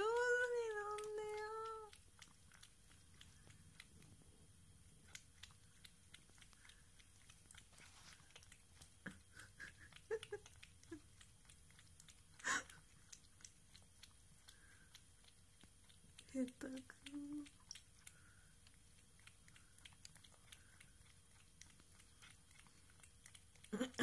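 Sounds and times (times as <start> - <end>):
cat lapping milk: 0.0 - 24.0.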